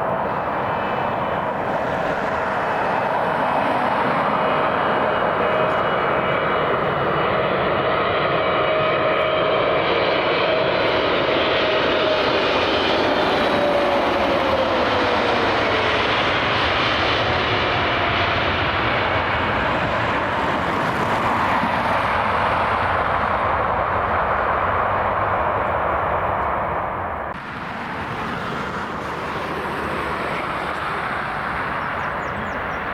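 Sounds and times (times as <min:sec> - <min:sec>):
airplane engines passing by: 0:00.0 - 0:32.9.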